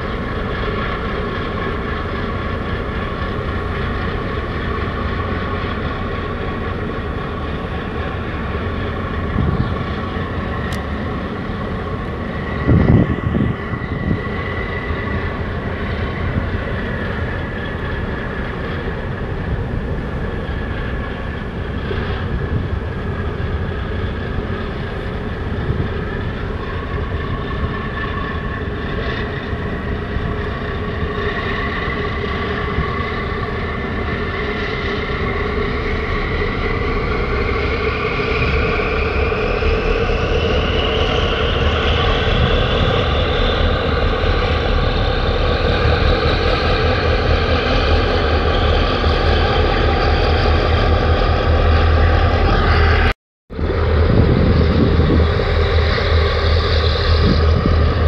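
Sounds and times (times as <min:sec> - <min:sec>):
boat diesel engine whining: 0:00.0 - 0:58.0.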